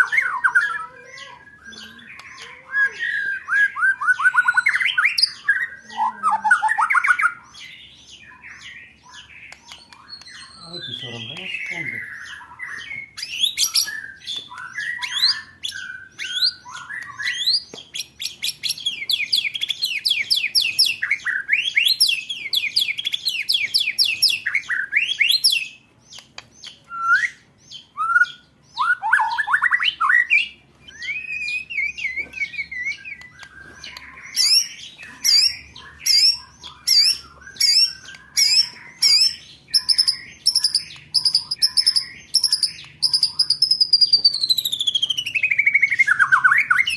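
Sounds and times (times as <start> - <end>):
songbird trills and whistles: 0.0 - 46.9.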